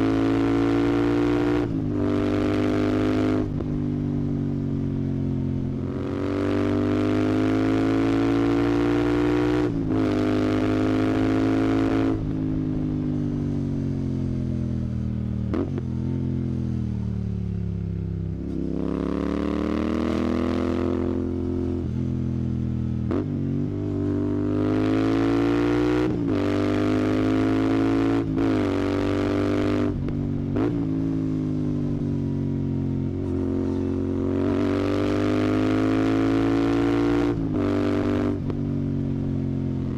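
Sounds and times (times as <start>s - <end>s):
motorcycle engine revving: 0.0s - 3.8s, 4.4s - 14.6s, 18.3s - 39.9s.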